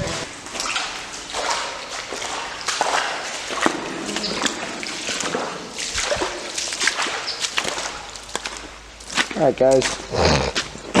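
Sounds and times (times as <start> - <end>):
footsteps on wet ground: 0.0 - 11.0
splashy scuffs: 0.0 - 11.0.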